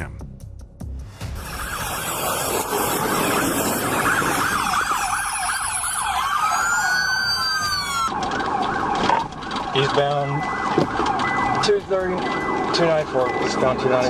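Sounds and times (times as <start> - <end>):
police siren wail: 1.2 - 14.0
police siren yelp: 1.2 - 14.0.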